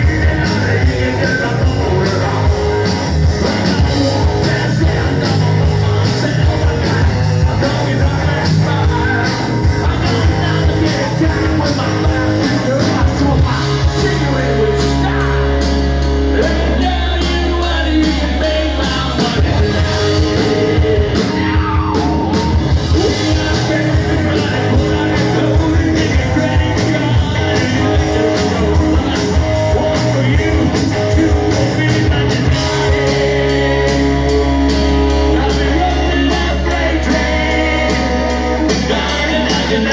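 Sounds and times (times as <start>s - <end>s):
hard rock band playing: 0.0s - 39.9s
man singing: 0.0s - 39.9s.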